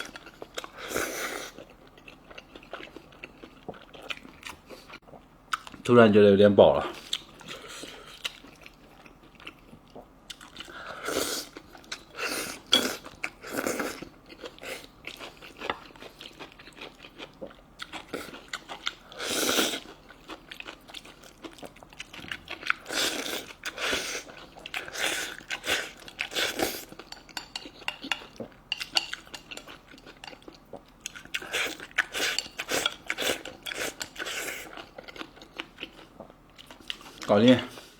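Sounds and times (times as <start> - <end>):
person chewing crunchy food: 0.0 - 5.8, 6.9 - 37.9.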